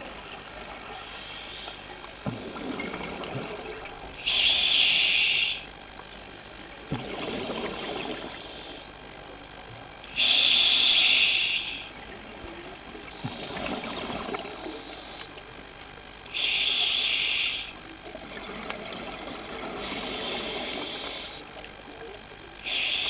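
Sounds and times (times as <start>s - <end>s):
water rushing and hissing in surges: 0.0s - 9.0s, 10.1s - 23.0s.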